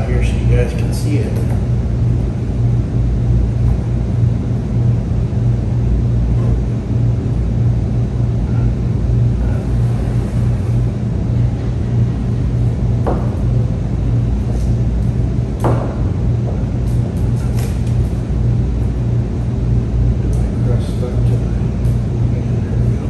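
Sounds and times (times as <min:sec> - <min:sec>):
machine hum and rumble: 0:00.0 - 0:23.0.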